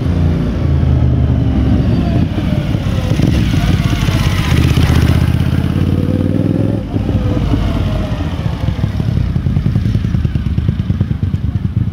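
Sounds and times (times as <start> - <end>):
motorcycle engine passing: 0.9 - 11.9.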